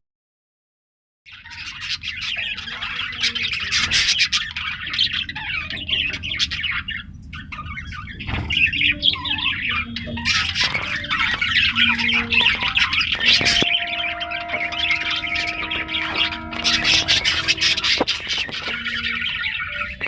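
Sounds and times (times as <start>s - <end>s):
budgerigars chattering and chirping: 1.3s - 20.0s
steady low hum: 2.6s - 20.0s.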